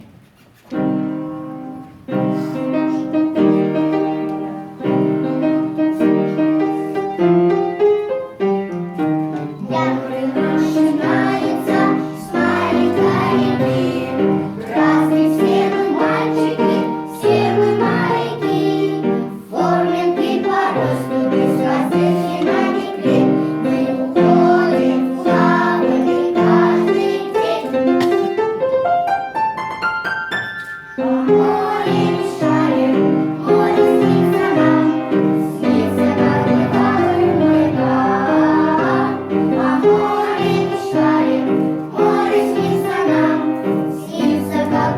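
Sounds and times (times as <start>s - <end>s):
piano and singing music: 0.0s - 44.9s.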